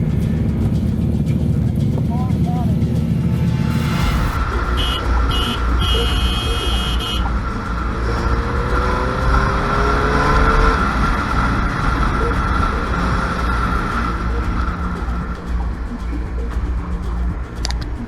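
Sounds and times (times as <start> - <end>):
engine accelerating: 0.0 - 18.0
road traffic engines: 0.0 - 18.0.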